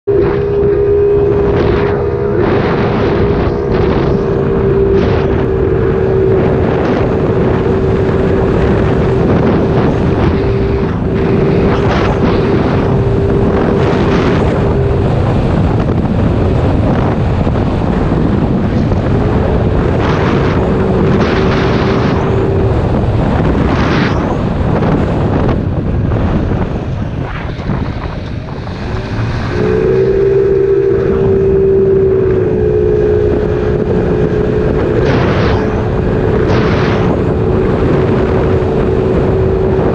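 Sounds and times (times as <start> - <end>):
scooter engine high-pitched drone: 0.0 - 39.9
wind noise on microphone: 0.0 - 39.9.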